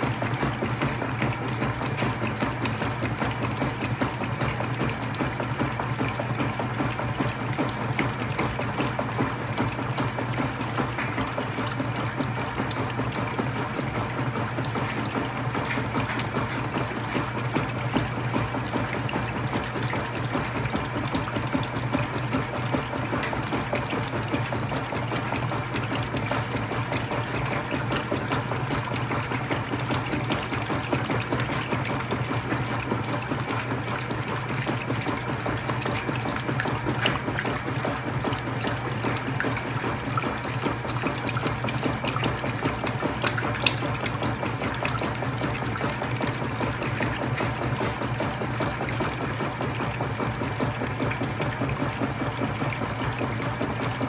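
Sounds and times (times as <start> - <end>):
water sloshing in washer: 0.0 - 54.0.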